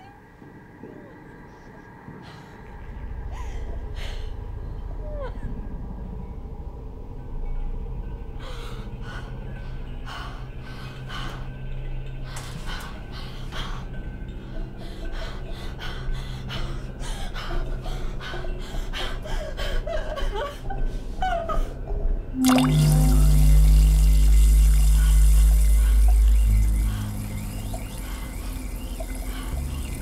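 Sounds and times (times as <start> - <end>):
low music drone: 0.0 - 30.0.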